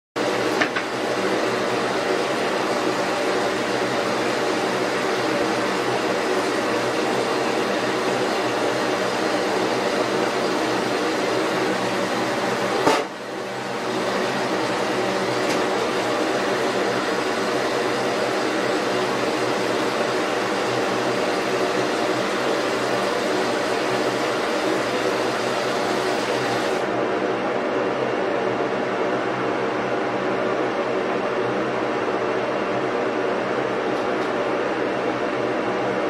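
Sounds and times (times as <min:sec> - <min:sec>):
ventilation fan humming: 0:00.2 - 0:36.0.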